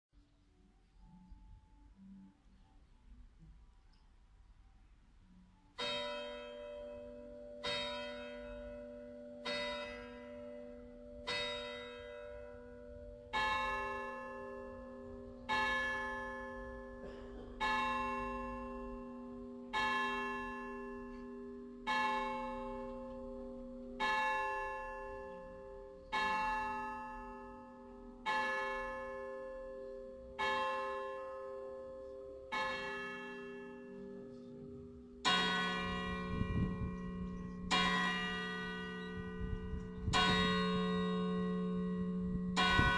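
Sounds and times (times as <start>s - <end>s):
church bells pealing: 5.7s - 42.9s.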